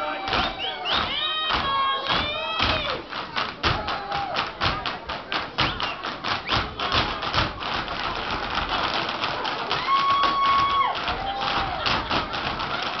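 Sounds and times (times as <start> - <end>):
hard shoes tapping and stamping: 0.2 - 13.0.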